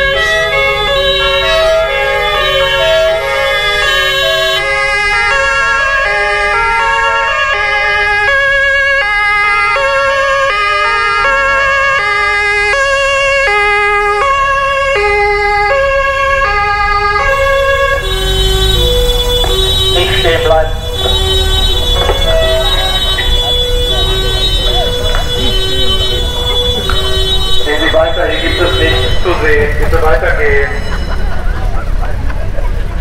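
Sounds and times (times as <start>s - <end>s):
two-tone emergency sirens: 0.0s - 32.3s
low vehicle rumble: 0.0s - 33.0s.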